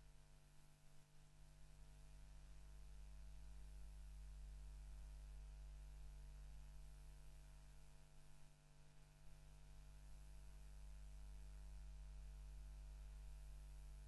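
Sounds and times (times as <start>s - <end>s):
faint mains hum with hiss: 0.0s - 14.0s.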